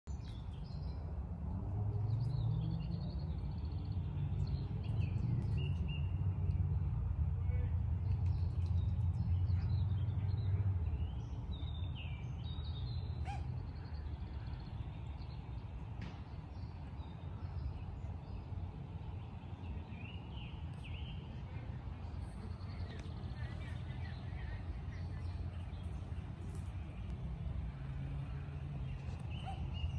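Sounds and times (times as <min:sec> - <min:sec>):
small birds chirping: 0:00.1 - 0:01.3, 0:01.9 - 0:29.9.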